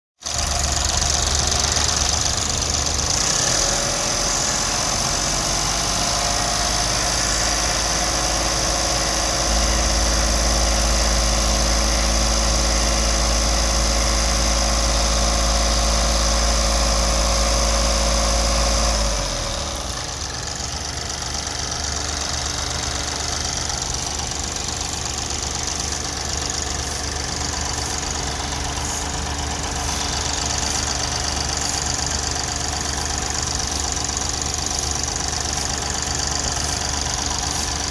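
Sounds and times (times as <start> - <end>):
diesel engine idling: 0.2 - 37.9
engine ticking clatter: 0.2 - 37.9.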